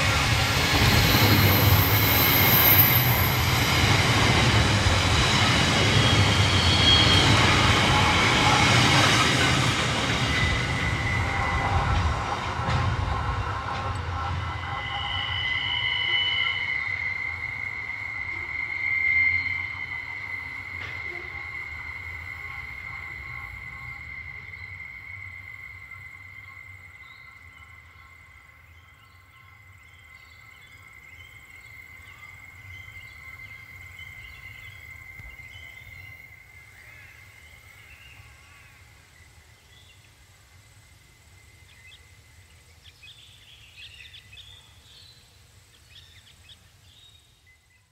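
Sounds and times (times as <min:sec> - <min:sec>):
train wheel squeal: 0:00.0 - 0:39.9
train rumble: 0:00.0 - 0:46.9.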